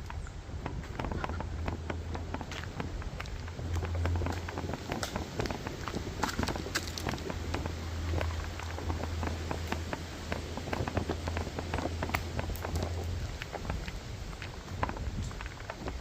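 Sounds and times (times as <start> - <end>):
footsteps on rough path: 0.0 - 16.0
low steady hum: 0.0 - 16.0.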